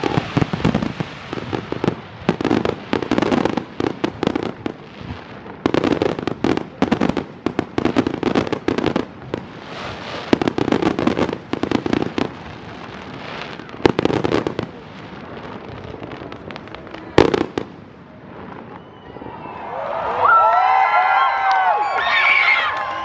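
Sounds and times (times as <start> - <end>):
fireworks bangs and crackling: 0.0 - 19.7.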